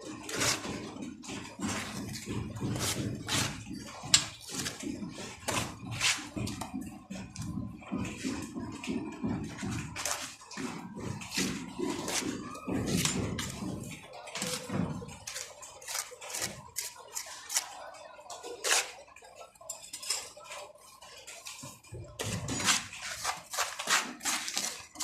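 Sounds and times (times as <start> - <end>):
hard objects clattering and scraping: 0.0 - 25.0.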